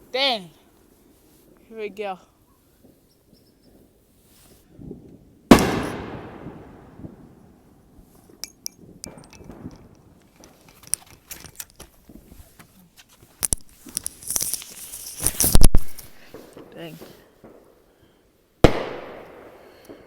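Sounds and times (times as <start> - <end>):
fireworks crackling and banging: 2.6 - 18.0, 18.6 - 20.0.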